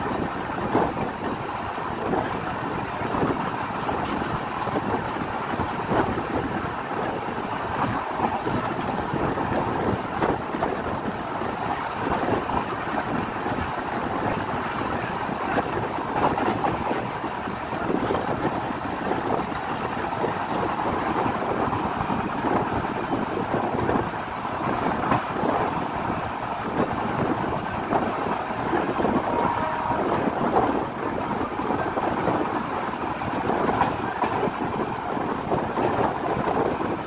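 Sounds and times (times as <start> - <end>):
rushing wind: 0.0 - 37.0
train wheels rumbling on rails: 0.0 - 37.0.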